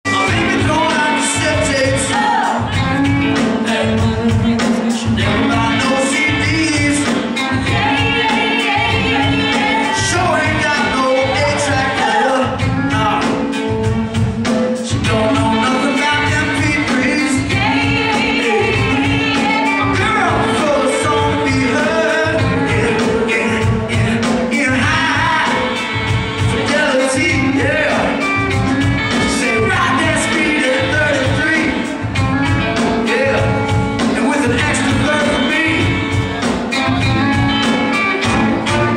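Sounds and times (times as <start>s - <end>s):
lead singer singing: 0.0s - 38.9s
live band playing: 0.0s - 38.9s.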